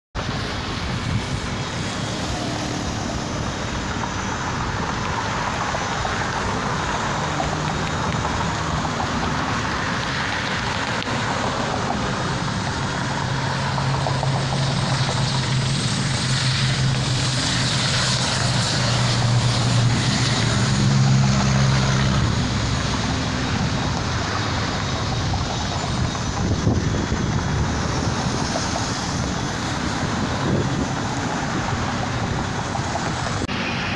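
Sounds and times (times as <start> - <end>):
road traffic rushing: 0.1 - 33.9
propeller airplane engines: 0.2 - 33.9.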